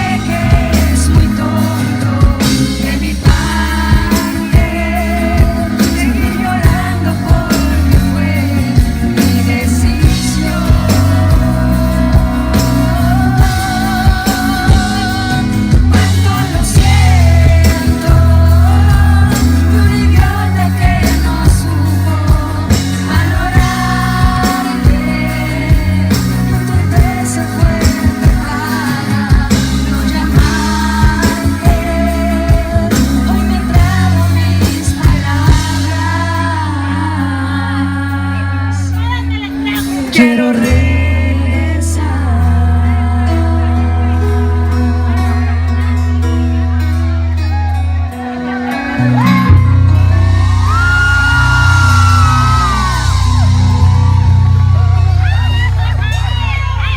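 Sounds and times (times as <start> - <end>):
person singing: 0.0 - 56.9
pop-rock band playing: 0.0 - 56.9.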